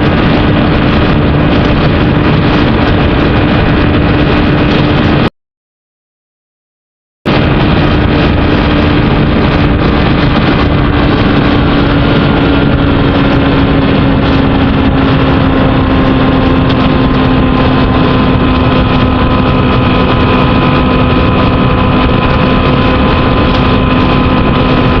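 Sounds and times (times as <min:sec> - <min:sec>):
motorcycle engine running steadily: 0:00.0 - 0:05.3, 0:07.3 - 0:25.0
wind rushing over microphone: 0:00.0 - 0:05.3, 0:07.3 - 0:25.0.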